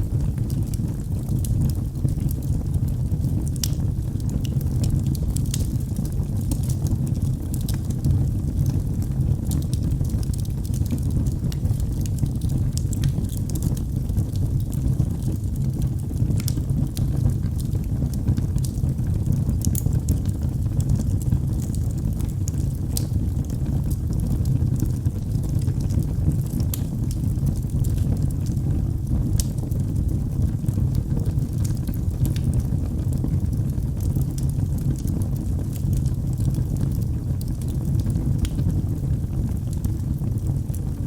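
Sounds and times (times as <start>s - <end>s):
burning wood crackling: 0.0s - 41.0s
fire flames rushing: 0.0s - 41.0s.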